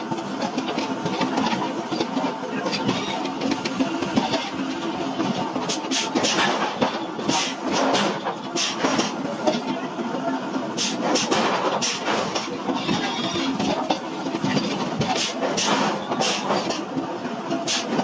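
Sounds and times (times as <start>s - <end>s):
heavy forging machinery running: 0.0s - 18.0s.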